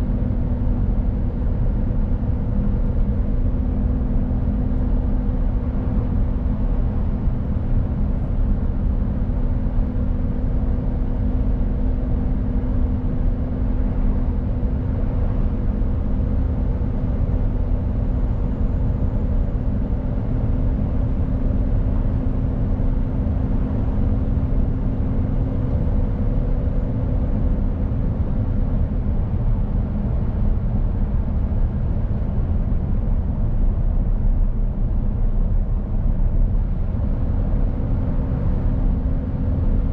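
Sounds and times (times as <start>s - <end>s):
road and tyre noise: 0.0s - 39.9s
truck engine drone: 0.0s - 39.9s.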